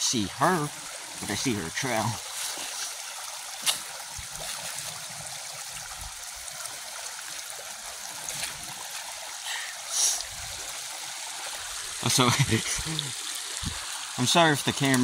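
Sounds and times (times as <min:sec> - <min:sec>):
creek trickling: 0:00.0 - 0:15.0.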